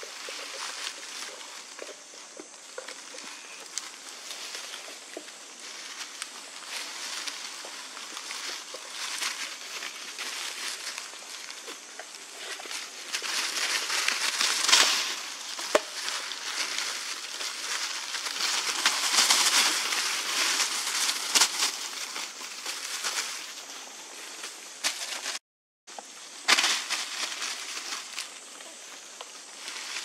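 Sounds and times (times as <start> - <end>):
crackling scuffs: 0.0 - 25.4
dry leaves crunching and rustling: 0.0 - 25.4, 26.1 - 30.0.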